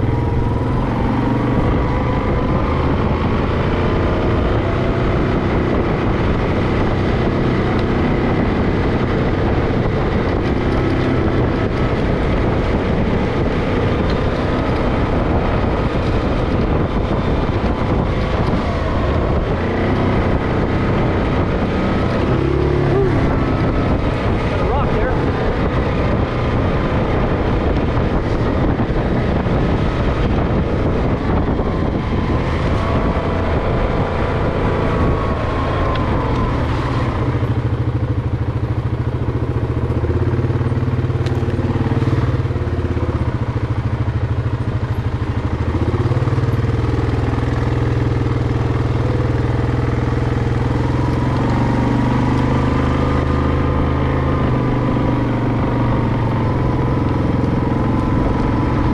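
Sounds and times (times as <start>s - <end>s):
off-road vehicle engine revving: 0.0s - 58.9s.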